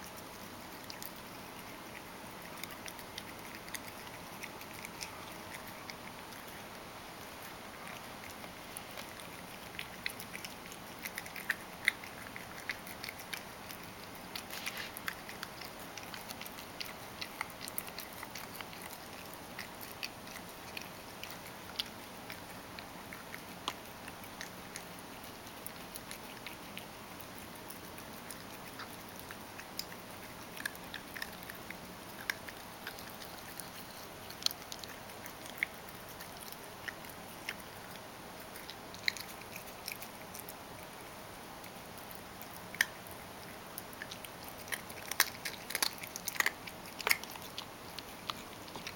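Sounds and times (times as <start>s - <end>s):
cat chewing wet food: 0.0s - 48.9s.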